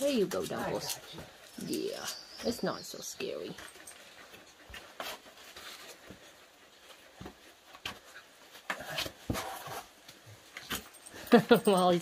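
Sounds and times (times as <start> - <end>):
faint dog sounds: 0.0 - 9.9.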